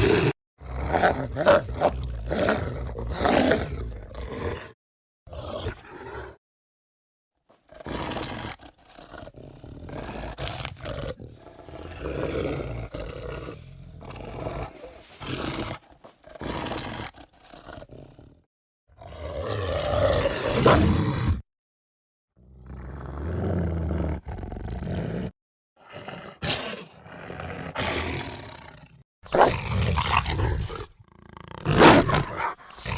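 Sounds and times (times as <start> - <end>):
werewolf growls and roars: 0.0 - 6.4, 7.7 - 21.4, 22.4 - 32.9.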